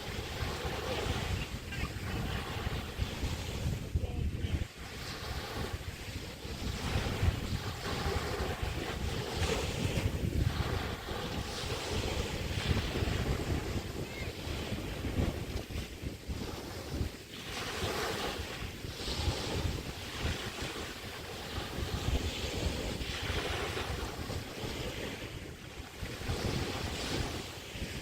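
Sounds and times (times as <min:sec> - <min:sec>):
waves washing onto beach: 0:00.0 - 0:28.0
wind buffeting microphone: 0:00.0 - 0:28.0.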